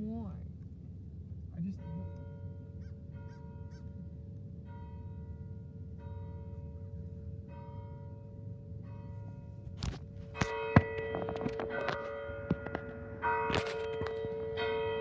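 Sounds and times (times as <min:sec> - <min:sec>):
church bells ringing: 0:01.6 - 0:15.0.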